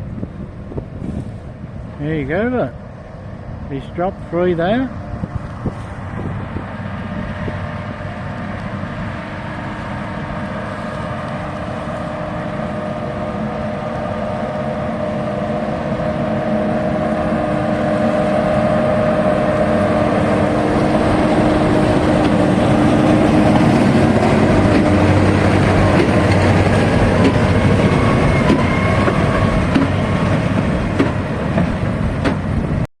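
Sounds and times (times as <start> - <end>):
tractor and baler machinery drone: 0.0 - 32.8.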